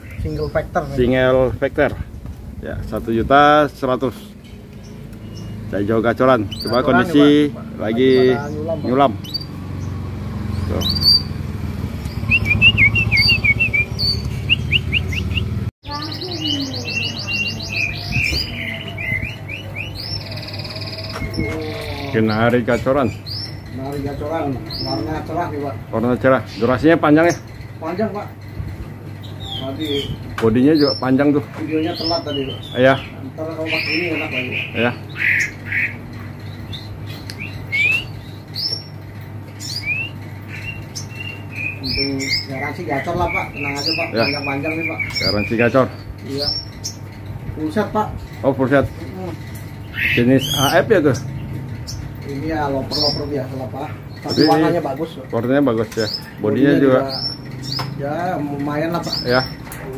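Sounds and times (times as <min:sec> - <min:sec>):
songbirds chirping: 0:00.0 - 0:59.9
rapid bird trills: 0:04.1 - 0:59.9.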